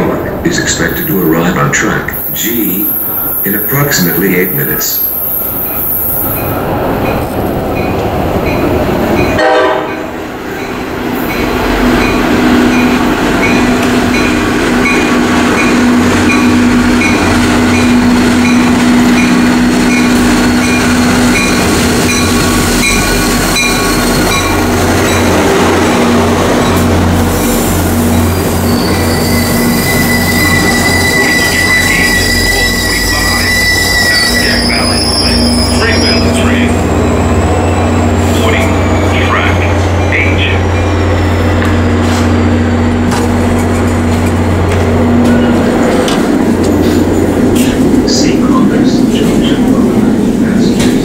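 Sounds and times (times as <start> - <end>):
train rumbling into station: 0.0 - 51.0.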